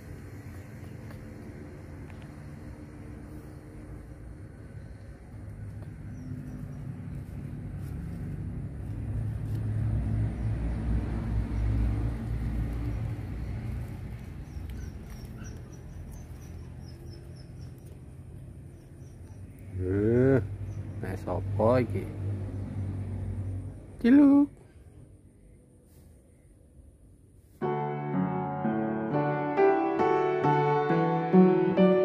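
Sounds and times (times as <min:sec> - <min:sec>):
passing vehicle engine rumble: 0:00.0 - 0:32.0.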